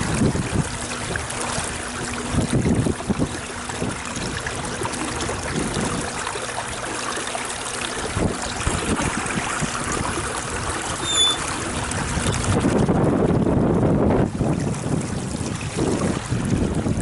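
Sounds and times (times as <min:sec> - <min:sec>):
running water splashing: 0:00.0 - 0:17.0.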